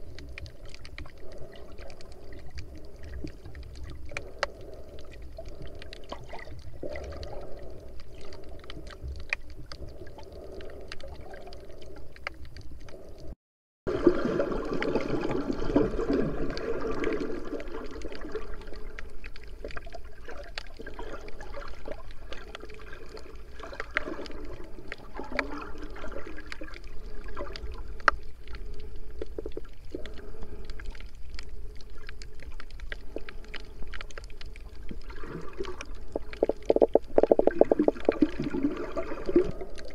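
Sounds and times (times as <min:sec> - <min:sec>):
clicks and crackles: 0:00.0 - 0:13.3, 0:16.5 - 0:38.5
muffled underwater water movement: 0:00.0 - 0:39.9.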